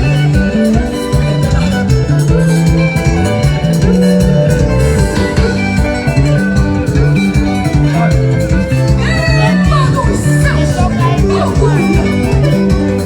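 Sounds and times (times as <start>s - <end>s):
bass line: 0.0s - 13.0s
drums steady beat: 0.0s - 13.0s
guitar lines: 0.0s - 13.0s.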